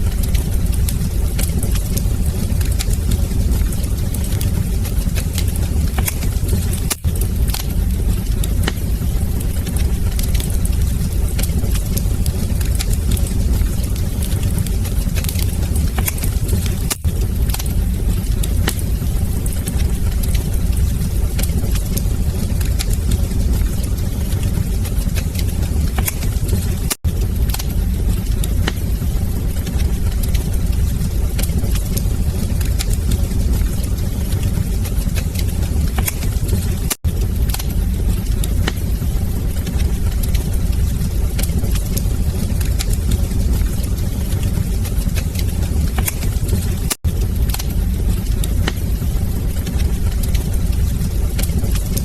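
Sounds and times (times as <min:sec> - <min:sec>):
fire crackling and popping: 0:00.0 - 0:52.0
fire flames roaring: 0:00.0 - 0:52.0.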